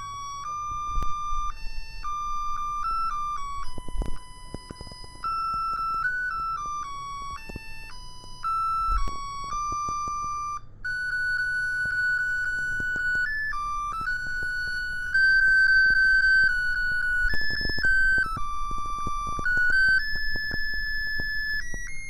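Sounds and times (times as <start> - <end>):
simple melody of held notes: 0.0 - 22.0.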